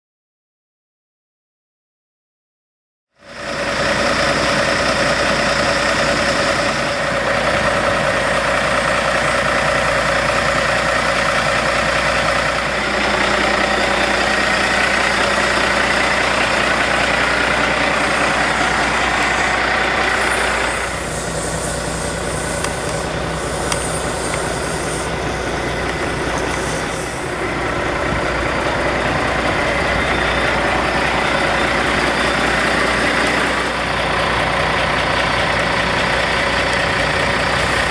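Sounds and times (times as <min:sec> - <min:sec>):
diesel truck engine idling: 0:03.2 - 0:37.9.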